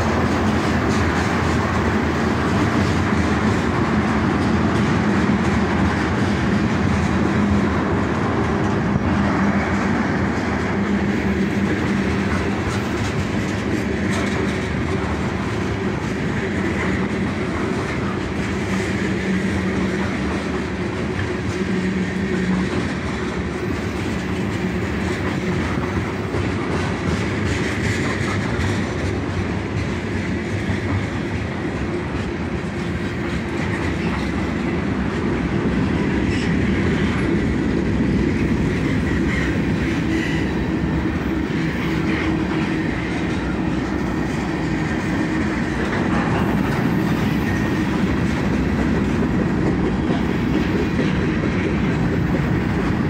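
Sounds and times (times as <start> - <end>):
freight train rolling past: 0.0 - 53.0
wheels clacking over rail joints: 0.0 - 53.0.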